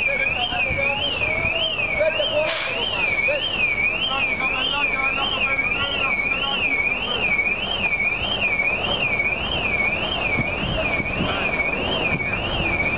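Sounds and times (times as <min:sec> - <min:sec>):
electronic siren warbling: 0:00.0 - 0:12.9.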